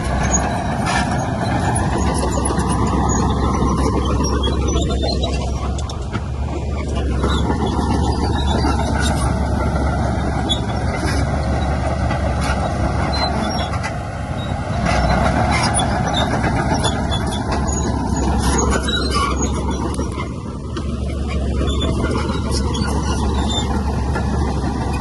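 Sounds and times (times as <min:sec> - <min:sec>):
heavy diesel machinery running: 0:00.0 - 0:25.0
machinery clanks and clicks: 0:00.0 - 0:25.0.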